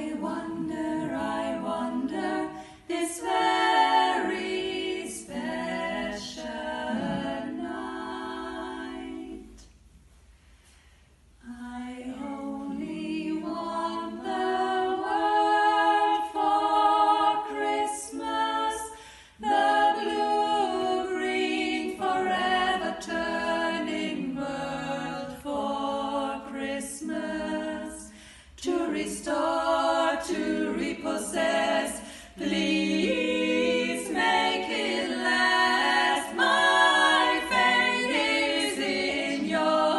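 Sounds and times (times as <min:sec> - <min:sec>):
women singing a cappella: 0:00.0 - 0:09.7, 0:11.4 - 0:39.9.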